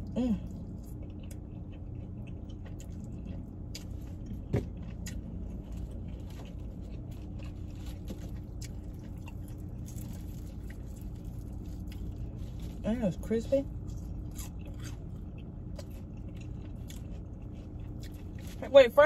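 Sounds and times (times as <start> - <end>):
person chewing: 0.0 - 18.6
car engine and air conditioning hum: 0.0 - 19.0.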